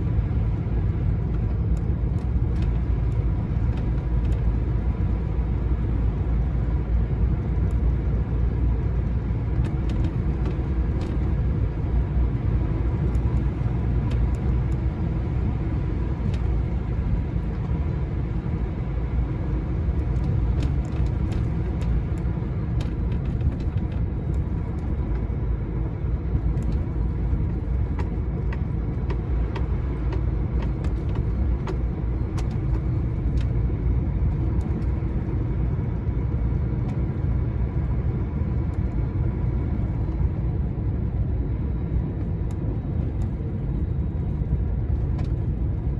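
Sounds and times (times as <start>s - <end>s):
lorry engine and road rumble: 0.0s - 45.9s.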